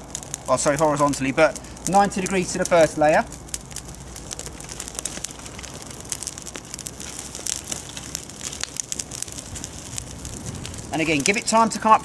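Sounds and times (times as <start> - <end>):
steady hiss: 0.0 - 12.0
wood fire crackling: 0.0 - 12.0.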